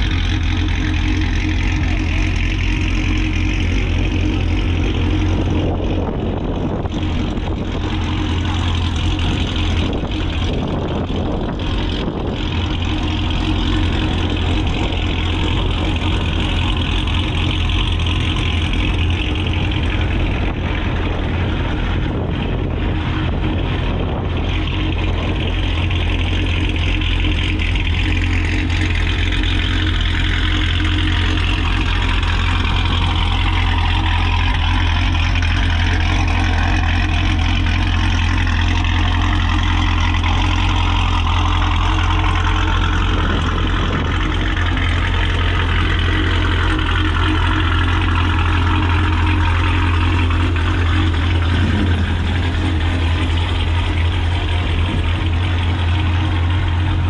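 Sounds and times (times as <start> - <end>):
car engines rumbling: 0.0 - 57.0.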